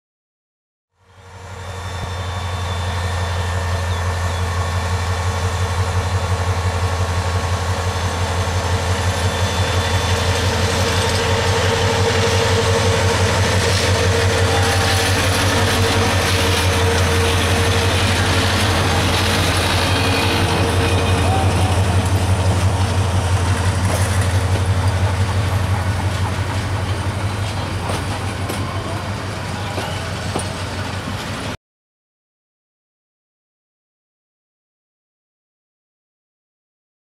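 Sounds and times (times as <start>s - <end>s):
diesel locomotive engine throbbing: 1.0s - 31.6s
train rolling: 1.1s - 31.6s.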